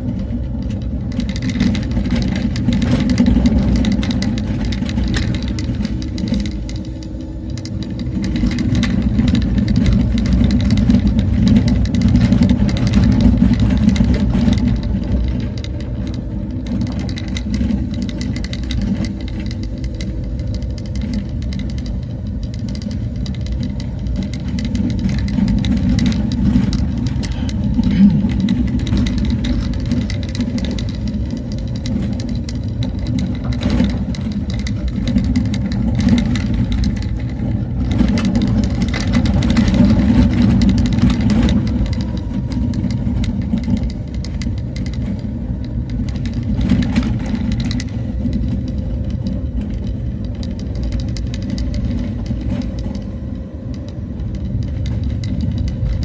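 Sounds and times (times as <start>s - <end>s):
knocks and rattles: 0.0s - 56.0s
vehicle engine and road rumble: 0.0s - 56.0s.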